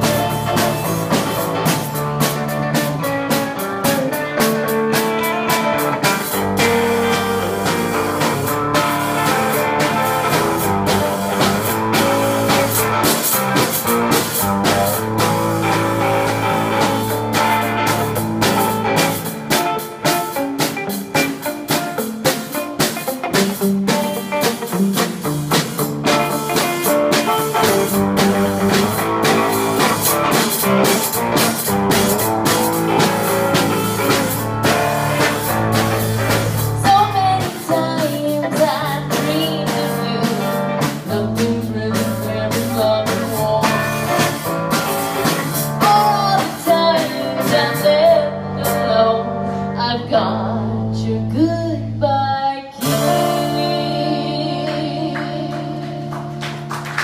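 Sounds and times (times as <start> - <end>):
drum kit: 0.0 - 51.5, 52.7 - 57.0
electric guitar: 0.0 - 57.0.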